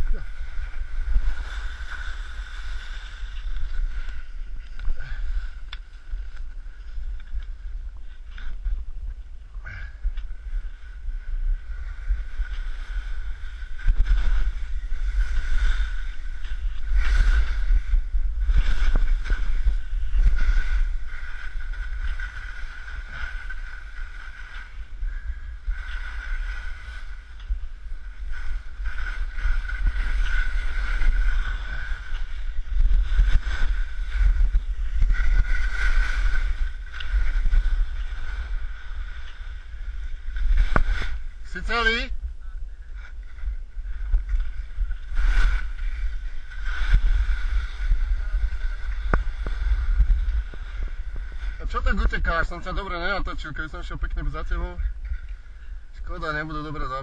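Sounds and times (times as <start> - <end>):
skis swishing through snow: 0.0 - 9.0, 9.7 - 42.1, 43.2 - 54.5
wind buffeting microphone: 0.0 - 57.0.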